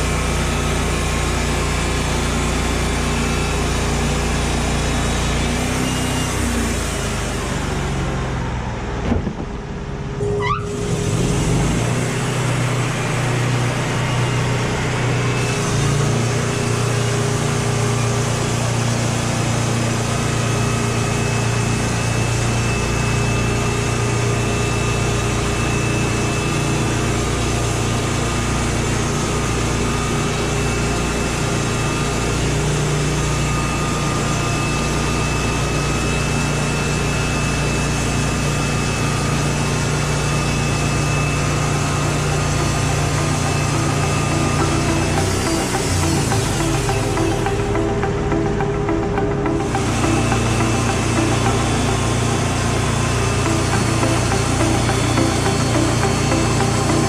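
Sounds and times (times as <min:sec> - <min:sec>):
machine engine running: 0:00.0 - 0:57.0.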